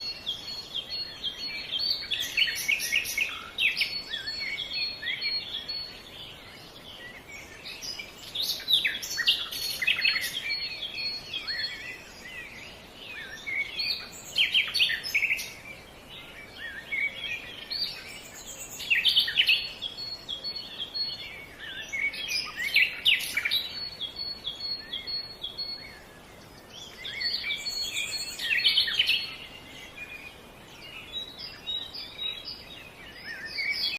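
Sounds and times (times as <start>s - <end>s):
faint background hiss: 0.0s - 33.9s
songbirds chirping: 0.0s - 33.9s.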